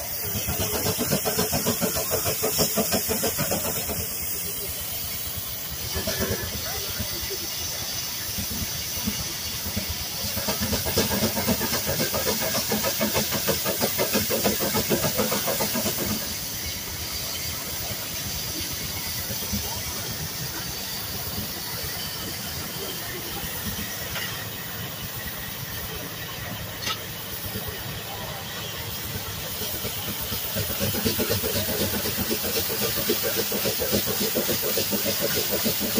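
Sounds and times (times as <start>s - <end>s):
steam engine exhaust chuffing: 0.0s - 35.9s
steam hissing: 0.0s - 35.9s.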